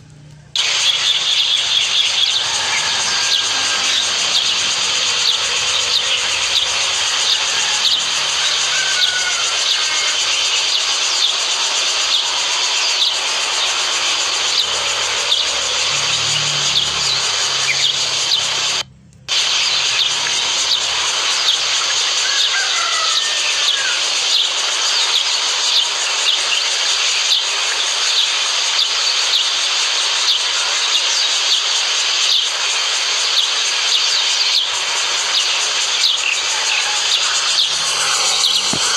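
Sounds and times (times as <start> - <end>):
faint bird calls: 0.0 - 32.6, 33.2 - 38.9
steady high hiss: 0.0 - 38.9.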